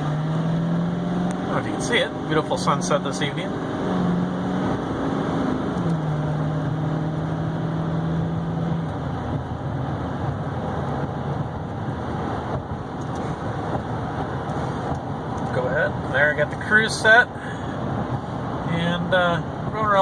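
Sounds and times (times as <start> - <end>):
truck engine drone: 0.0 - 19.5
tyre and road rumble: 0.0 - 20.0.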